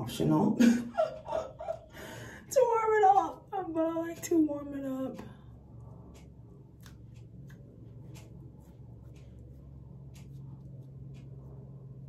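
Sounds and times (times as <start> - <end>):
steady low hum: 0.0 - 12.0
light ticks: 1.2 - 12.0.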